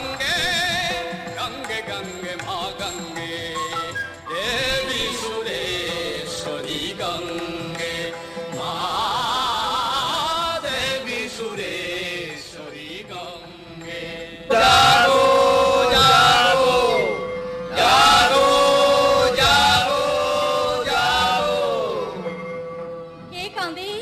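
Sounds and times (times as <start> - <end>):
music: 0.0 - 24.0.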